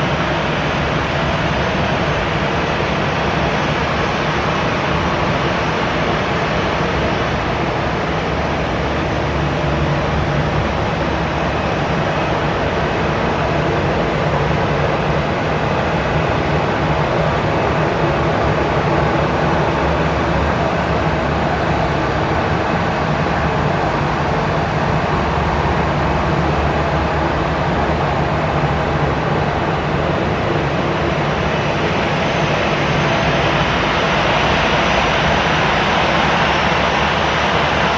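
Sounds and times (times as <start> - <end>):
jet engines running: 0.0 - 37.9.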